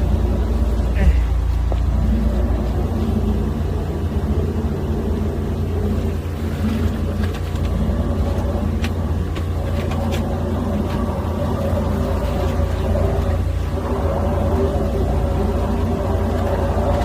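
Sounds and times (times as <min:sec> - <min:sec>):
drain jetter engine drone: 0:00.0 - 0:17.0.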